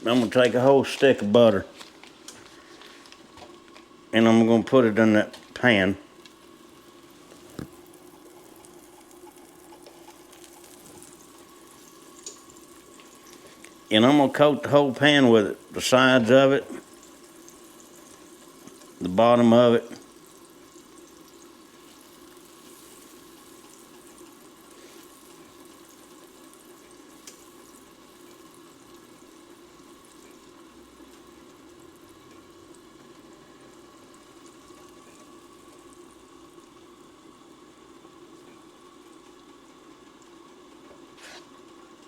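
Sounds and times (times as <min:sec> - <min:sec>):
food sizzling in a pan: 0:04.8 - 0:42.0.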